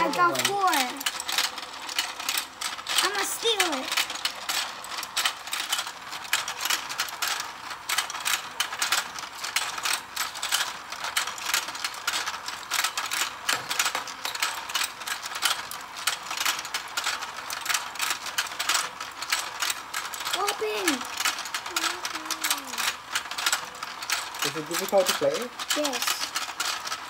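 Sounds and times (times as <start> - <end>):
toy plastic gears clicking: 0.0 - 27.0.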